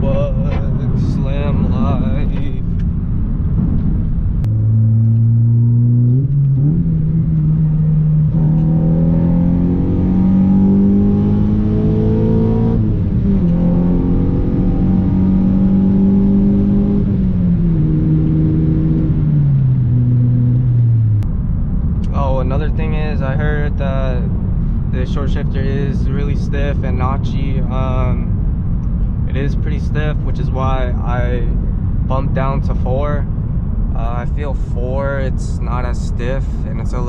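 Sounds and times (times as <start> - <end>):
car engine revving under load: 0.0 - 37.0.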